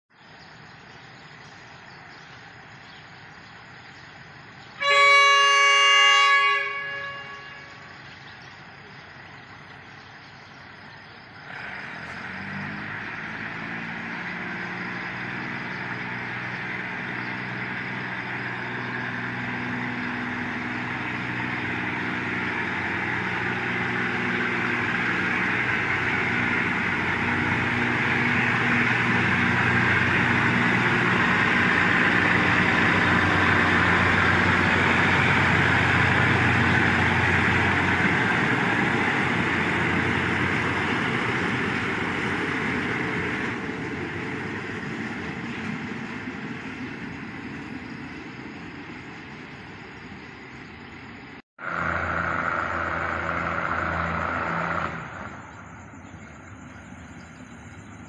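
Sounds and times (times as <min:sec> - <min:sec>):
train engine running: 0:01.5 - 0:58.0
train wheels rumbling on rails: 0:03.3 - 0:51.4.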